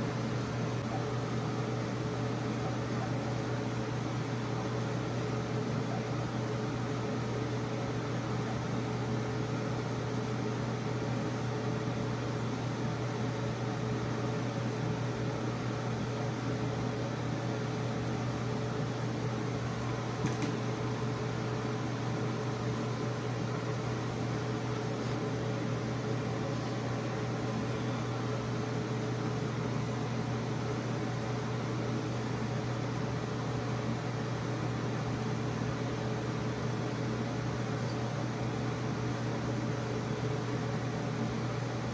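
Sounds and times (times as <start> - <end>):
ventilation fan humming: 0.0 - 41.9.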